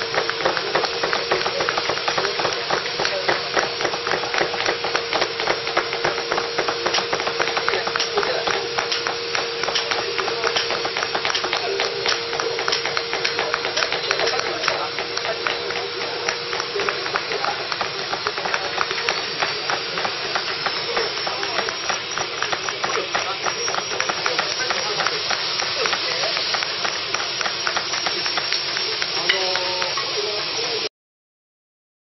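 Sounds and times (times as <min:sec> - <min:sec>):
chisel tapping on stone: 0:00.1 - 0:30.1.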